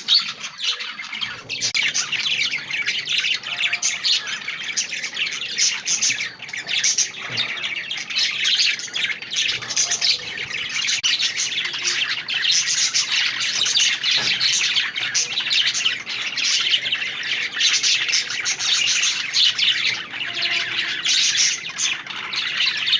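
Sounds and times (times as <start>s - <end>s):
budgerigars chattering: 0.0s - 22.9s.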